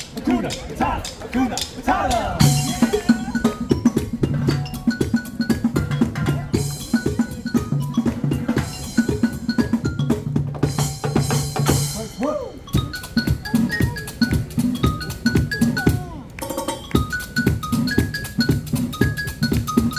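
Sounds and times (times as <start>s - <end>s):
fast drumming: 0.0s - 19.9s.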